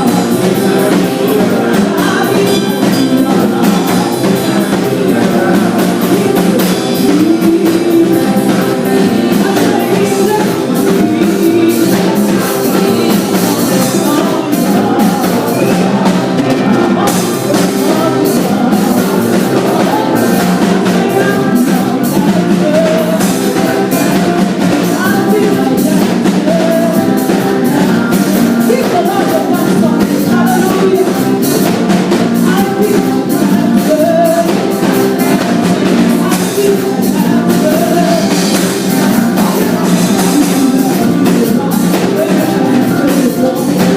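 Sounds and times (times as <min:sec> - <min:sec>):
band playing rock worship song: 0:00.0 - 0:43.9.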